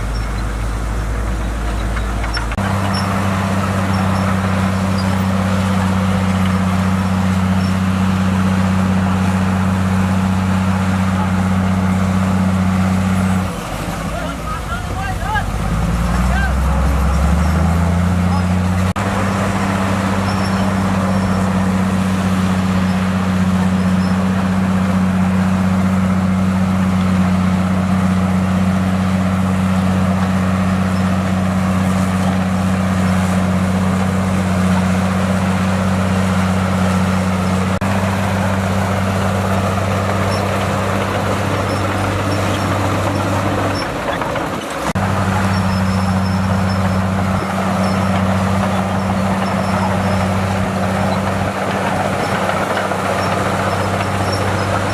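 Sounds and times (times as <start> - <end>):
diesel earthmover engine running: 0.0 - 54.9.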